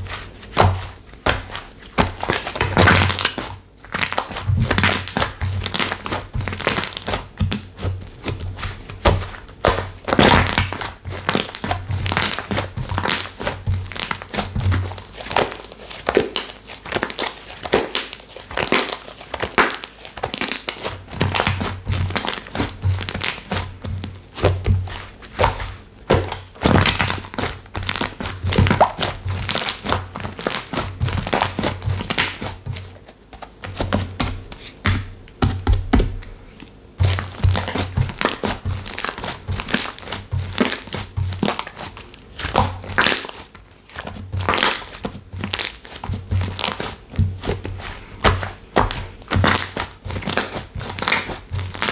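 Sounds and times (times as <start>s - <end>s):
slime squished by hand: 0.1s - 36.2s, 37.0s - 51.9s.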